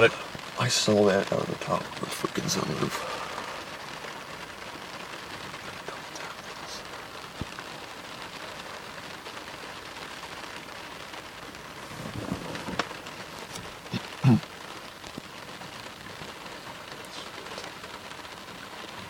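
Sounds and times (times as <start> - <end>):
rain on car roof: 0.0 - 19.0.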